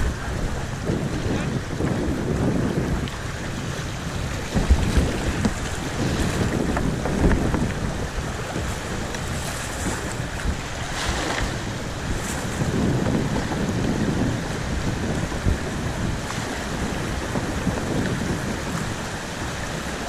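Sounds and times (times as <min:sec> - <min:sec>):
paddle splashes and knocks: 0:00.0 - 0:20.0
wind buffeting microphone: 0:00.0 - 0:20.0.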